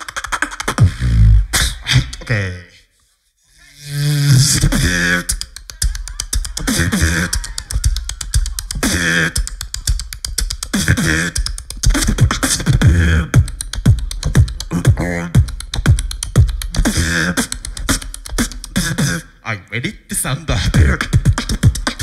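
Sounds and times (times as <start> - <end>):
beatboxing through a microphone: 0.0 - 2.5, 3.8 - 22.0.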